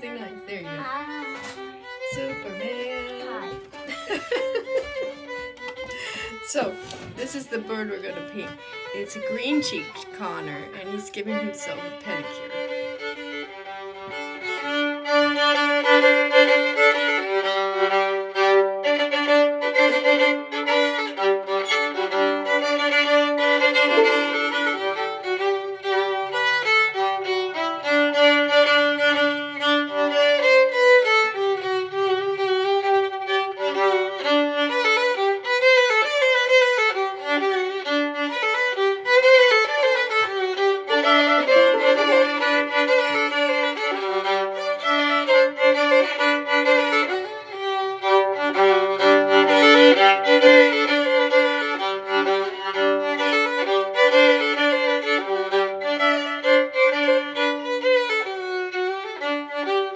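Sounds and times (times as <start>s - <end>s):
violin melody: 0.0s - 59.9s.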